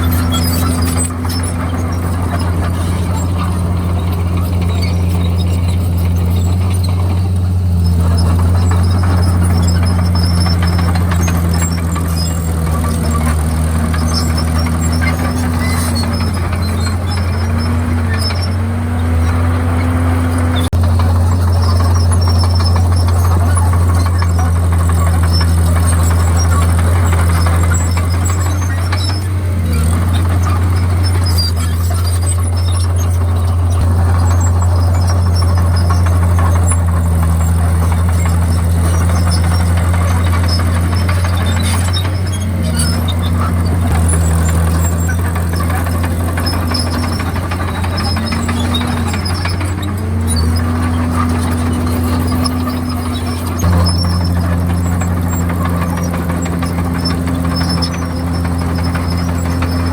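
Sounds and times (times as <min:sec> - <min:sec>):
bulldozer diesel engine droning: 0:00.0 - 0:59.9
crawler tracks squealing: 0:00.0 - 0:59.9.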